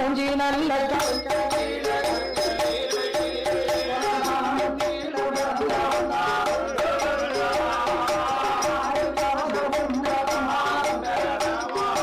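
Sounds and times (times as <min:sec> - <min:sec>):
melody over steady percussion: 0:00.9 - 0:12.0.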